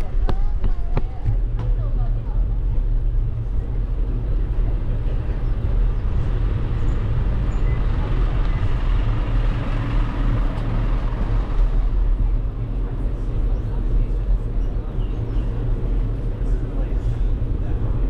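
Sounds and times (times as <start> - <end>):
bicycle road noise: 0.0 - 18.0
wind rumble on microphone: 0.0 - 18.0.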